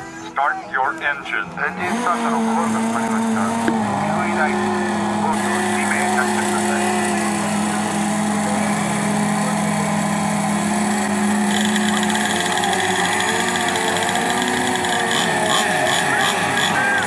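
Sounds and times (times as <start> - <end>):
model boat engines running: 0.8 - 17.0
higher buzzing engine note: 1.3 - 17.0.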